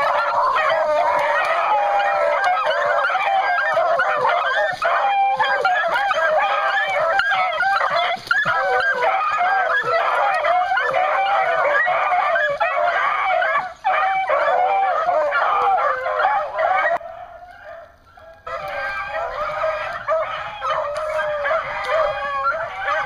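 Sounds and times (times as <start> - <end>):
pack of hounds baying: 0.0 - 23.0.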